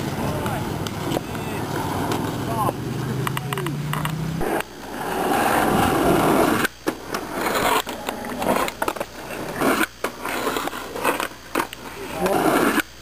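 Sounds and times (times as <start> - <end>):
skateboard sliding on box: 0.0 - 13.0
skateboard wheels rolling on asphalt: 0.0 - 13.0.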